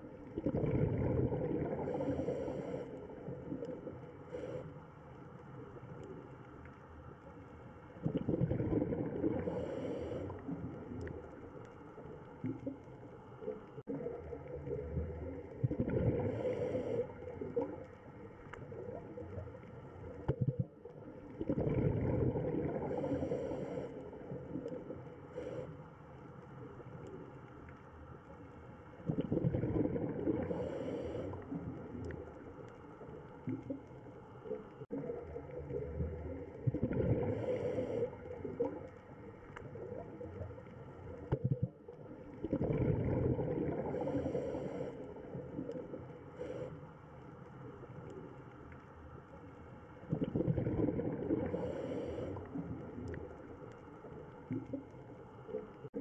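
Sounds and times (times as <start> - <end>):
underwater bubbling water: 0.0 - 56.0.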